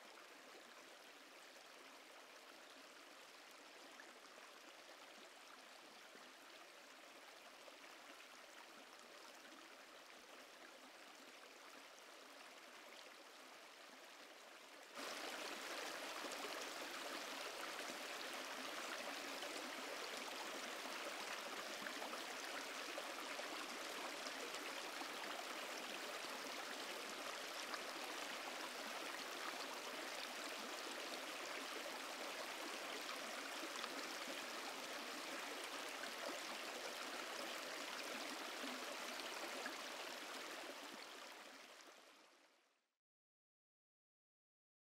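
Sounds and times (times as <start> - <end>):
stream running over stones: 0.0 - 42.2.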